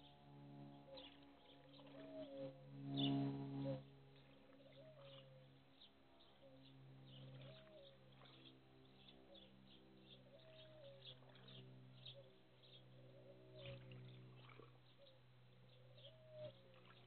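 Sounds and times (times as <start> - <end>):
small birds chirping: 0.0 - 3.4, 4.2 - 17.0
low steady hum: 0.0 - 17.0.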